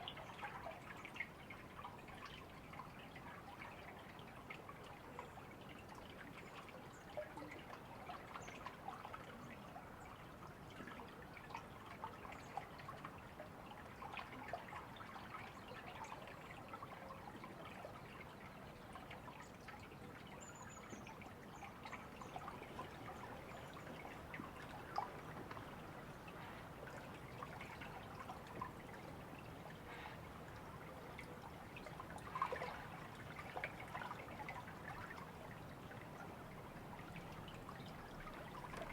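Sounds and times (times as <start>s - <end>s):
small stream trickling: 0.0s - 38.9s
water splashes and drips: 0.0s - 38.9s.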